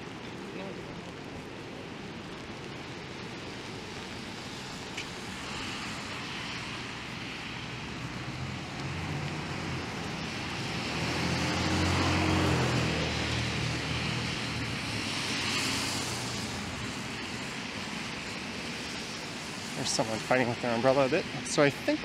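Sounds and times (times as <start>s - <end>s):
passing vehicle noise: 3.9s - 21.6s.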